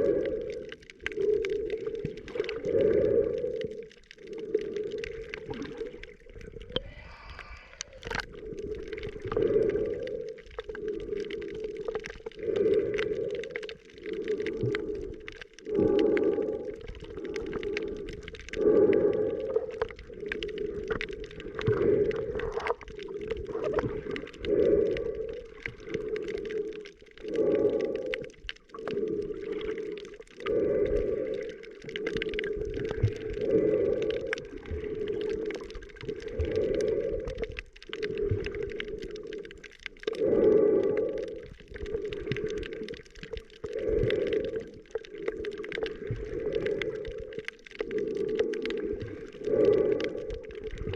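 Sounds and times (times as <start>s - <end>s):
bubbling: 0.0s - 50.9s
snorkeler breathing underwater: 0.0s - 50.9s.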